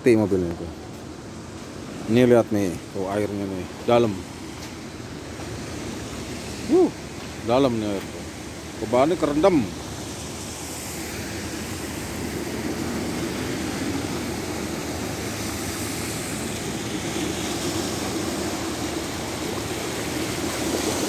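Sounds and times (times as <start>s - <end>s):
constant rushing noise: 0.0s - 21.0s.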